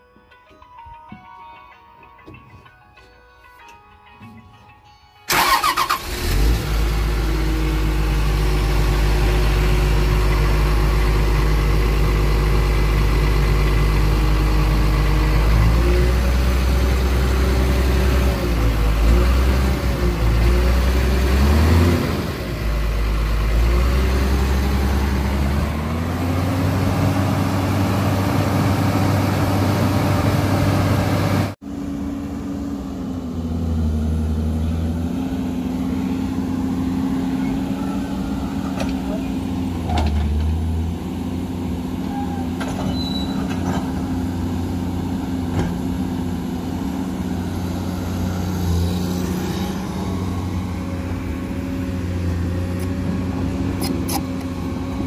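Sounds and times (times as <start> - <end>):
excavator diesel engine running: 5.3 - 55.0.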